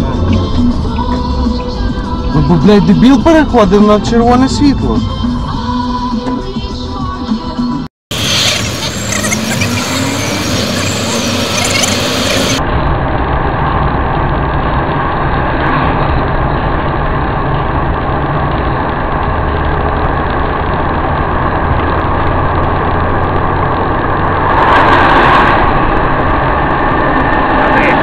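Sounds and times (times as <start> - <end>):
car engine and road noise: 0.0 - 28.0
rush of noise: 0.0 - 28.0.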